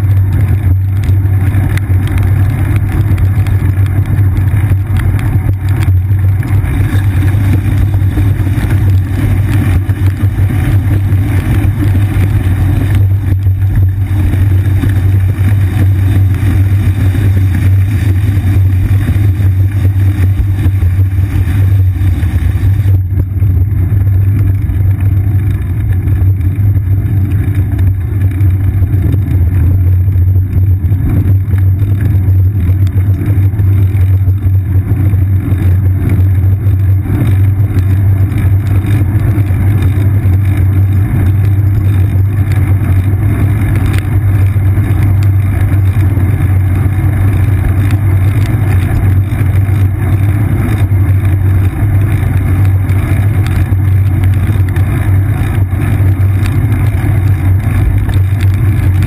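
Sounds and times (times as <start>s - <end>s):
bicycle riding on wet pavement: 0.0s - 59.0s
wind: 0.0s - 59.0s.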